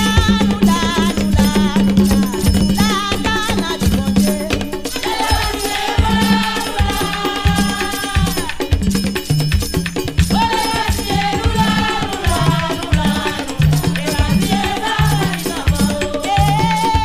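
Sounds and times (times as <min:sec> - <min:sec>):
voices singing: 0:00.0 - 0:09.0, 0:10.3 - 0:17.0
repeating drum rhythm: 0:00.0 - 0:17.0.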